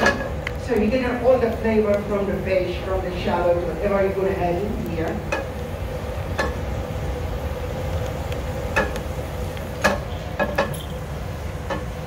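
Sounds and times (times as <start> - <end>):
gas range rumble and hum: 0.0 - 12.0.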